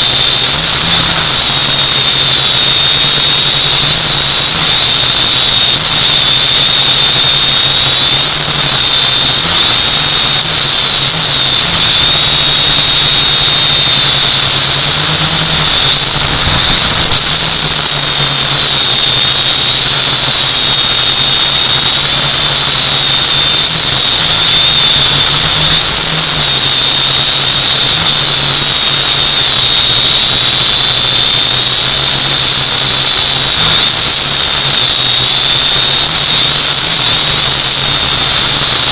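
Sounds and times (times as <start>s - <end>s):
drone motors whining: 0.0s - 38.9s.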